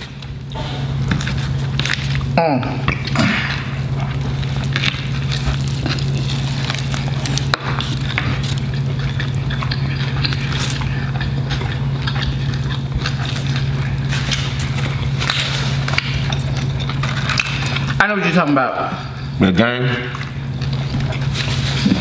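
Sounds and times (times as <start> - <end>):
chewing and crunching food: 0.0 - 22.0
low steady hum: 0.0 - 22.0.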